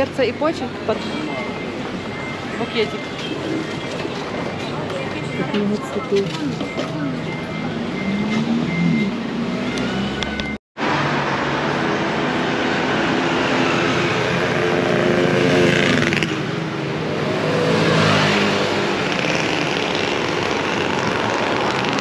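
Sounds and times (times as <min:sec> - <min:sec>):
vehicles accelerating past: 0:00.0 - 0:22.0.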